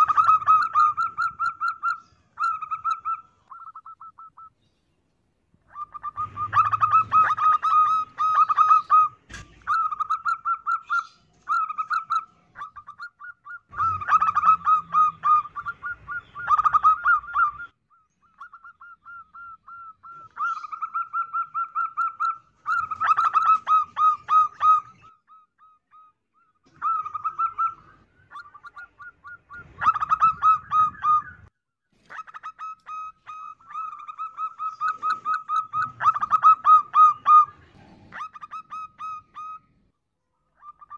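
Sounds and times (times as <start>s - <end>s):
dove cooing: 0.0s - 4.5s, 5.7s - 31.5s, 32.1s - 39.9s.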